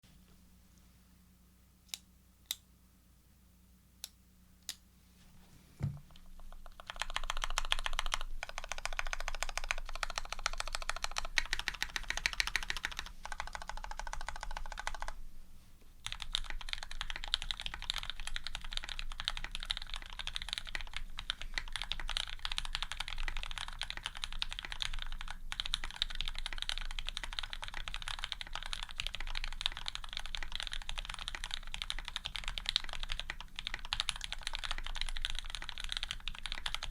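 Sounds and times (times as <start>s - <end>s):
typing on mechanical keyboard: 6.1s - 15.2s, 16.0s - 36.9s.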